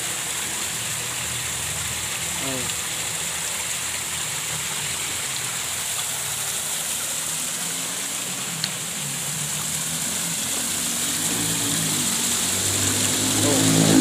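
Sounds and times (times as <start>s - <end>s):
low wavering hum: 0.0s - 14.0s
stream water running over rocks: 0.0s - 14.0s.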